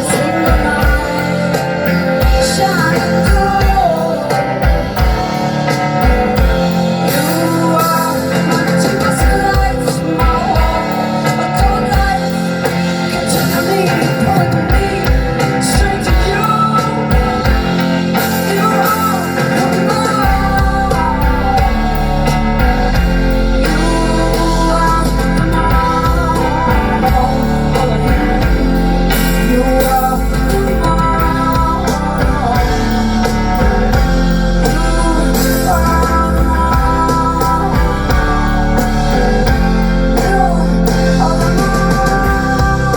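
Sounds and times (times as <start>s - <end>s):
deep bass: 0.0s - 42.9s
live rock band playing: 0.0s - 42.9s
woman singing: 0.0s - 42.9s.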